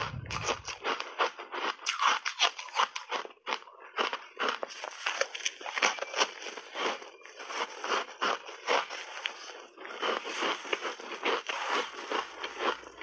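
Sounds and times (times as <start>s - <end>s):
shaved ice crunching when chewed: 0.1s - 13.0s.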